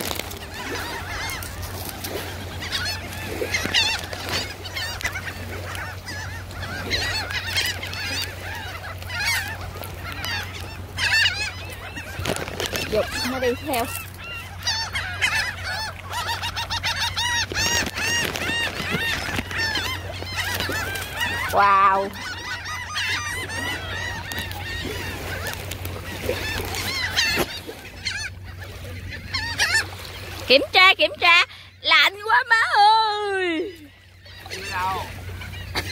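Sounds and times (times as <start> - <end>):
flock of birds calling: 0.0 - 35.9.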